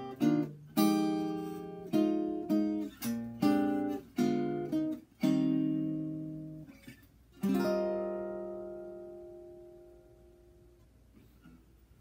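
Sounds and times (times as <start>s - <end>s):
acoustic guitar chords ringing: 0.0s - 11.6s.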